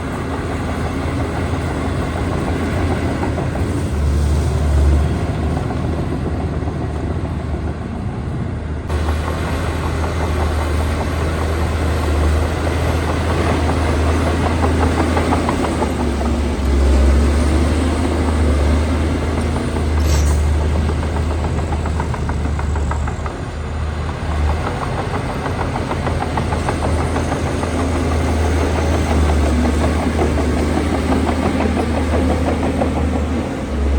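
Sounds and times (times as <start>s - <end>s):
bulldozer diesel engine droning: 0.0s - 33.9s.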